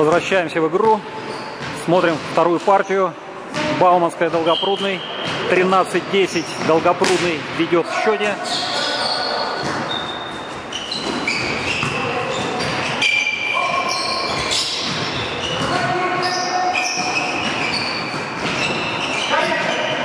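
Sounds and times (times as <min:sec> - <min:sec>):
sneakers squeaking on gym floor: 0:00.0 - 0:02.6, 0:03.5 - 0:20.0.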